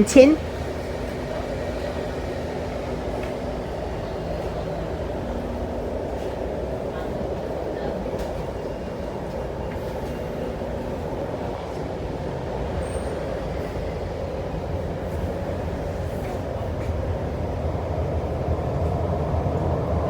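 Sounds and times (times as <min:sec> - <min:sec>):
train cabin rumble: 0:00.0 - 0:20.0.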